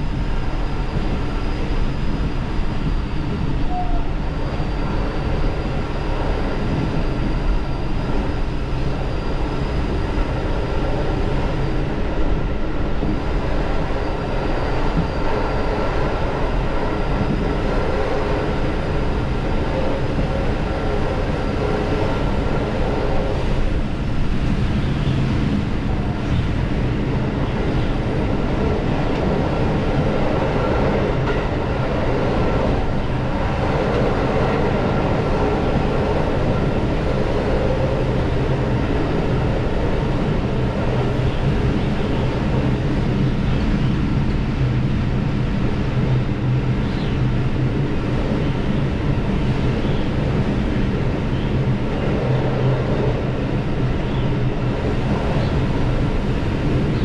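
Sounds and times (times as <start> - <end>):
diesel railcar running: 0.0 - 57.0.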